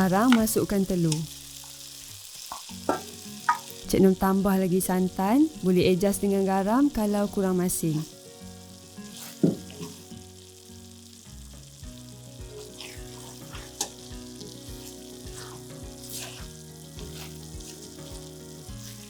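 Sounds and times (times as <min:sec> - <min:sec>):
sauce sizzling in a wok: 0:00.0 - 0:19.0
soft background music: 0:00.0 - 0:19.0.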